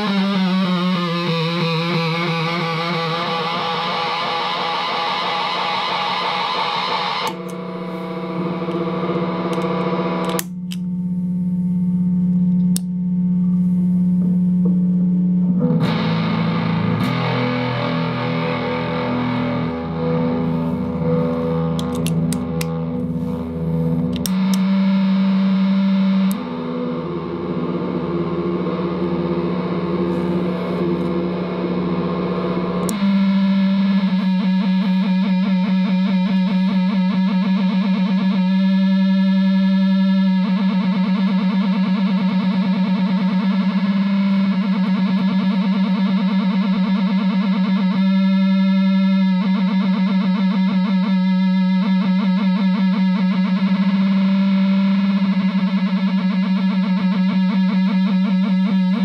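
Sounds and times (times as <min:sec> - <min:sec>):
distorted droning guitar effects: 0:00.0 - 0:59.0.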